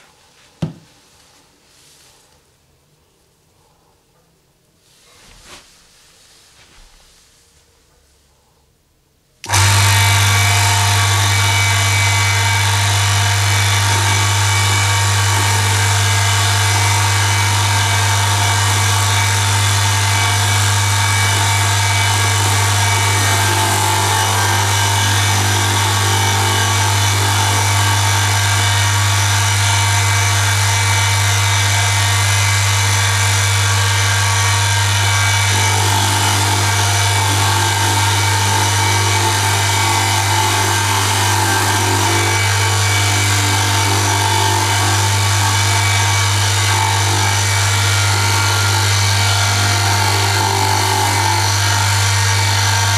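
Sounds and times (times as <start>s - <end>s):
electric motor running: 9.4s - 52.9s
metal grinding on metal: 9.5s - 52.9s.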